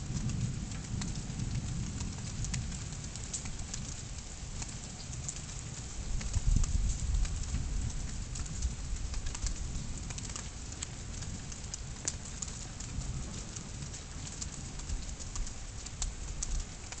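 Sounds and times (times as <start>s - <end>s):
raindrops ticking: 0.0s - 17.0s.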